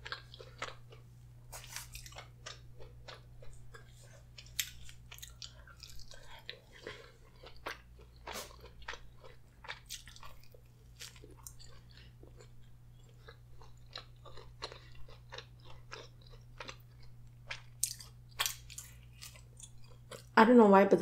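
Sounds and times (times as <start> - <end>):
chewing with mouth clicks: 0.0 - 20.4
faint low hum: 0.0 - 21.0.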